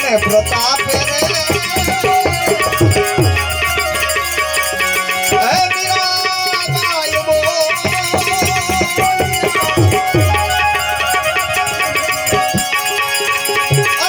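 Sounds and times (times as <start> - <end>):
held notes and wavering melody: 0.0 - 14.0
tabla rhythm: 0.0 - 14.0.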